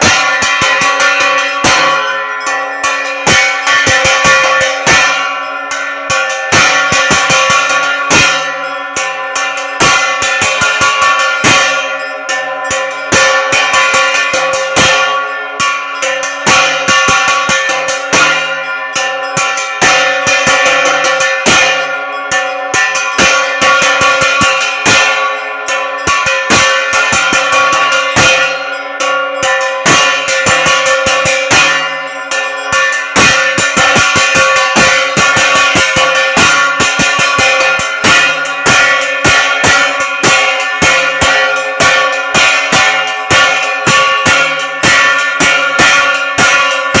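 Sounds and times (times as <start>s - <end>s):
drums beating: 0.0s - 47.0s
temple bells clanging: 0.0s - 47.0s.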